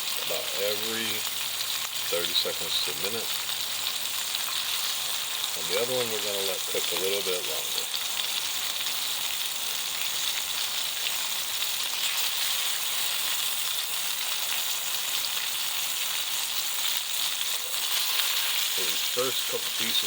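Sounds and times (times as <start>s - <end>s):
fish sizzling in a hot pan: 0.0s - 20.0s.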